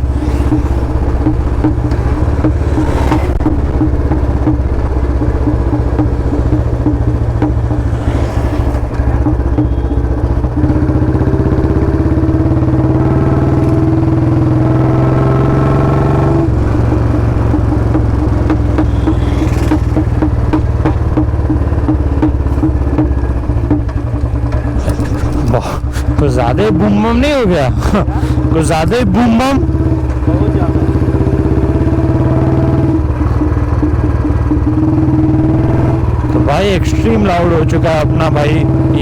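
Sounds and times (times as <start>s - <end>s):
motorcycle engine running loud: 0.0s - 39.0s.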